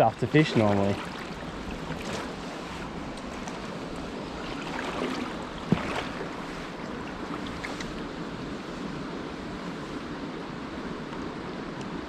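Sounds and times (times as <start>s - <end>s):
fast-flowing river rushing: 0.2s - 11.4s.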